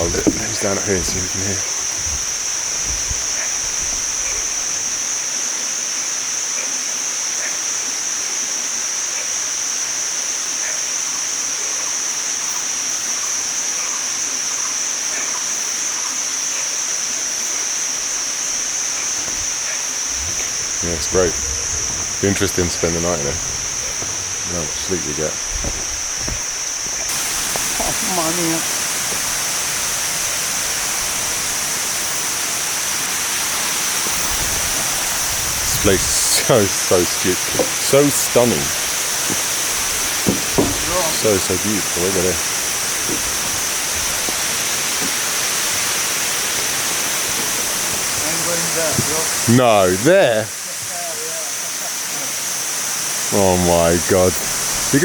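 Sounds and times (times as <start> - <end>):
waterfall rushing: 0.0 - 6.4, 17.1 - 55.0
cicadas droning: 0.0 - 55.0
frogs chirping: 0.0 - 55.0.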